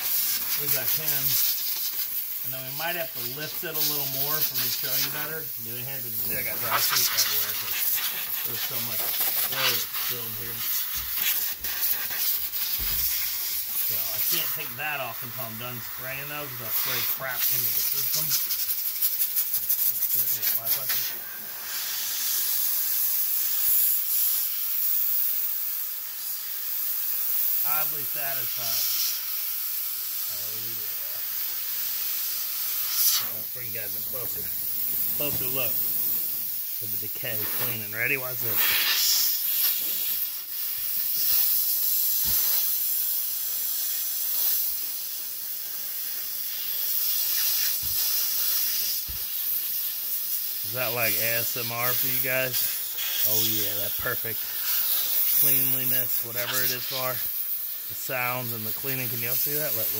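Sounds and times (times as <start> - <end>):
air blow gun hissing: 0.0 - 59.9.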